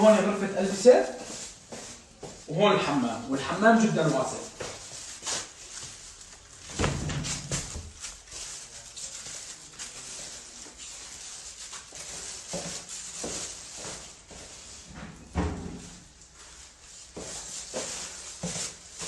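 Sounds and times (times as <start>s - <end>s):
footsteps in shoe covers: 0.1s - 14.9s, 16.2s - 19.0s.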